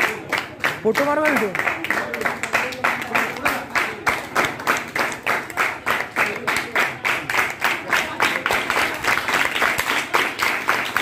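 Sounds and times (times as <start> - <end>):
people clapping in rhythm: 0.0 - 11.0.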